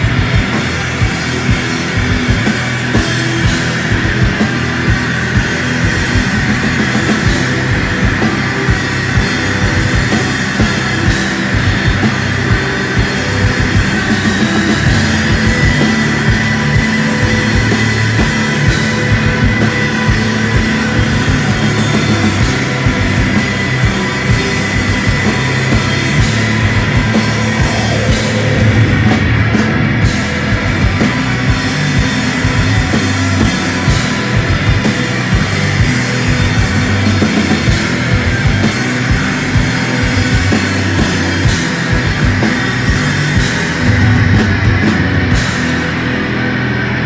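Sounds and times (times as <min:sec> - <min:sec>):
bass guitar: 0:00.0 - 0:47.0
drum kit with cymbal hits: 0:00.0 - 0:47.0
electric guitar: 0:00.0 - 0:47.0.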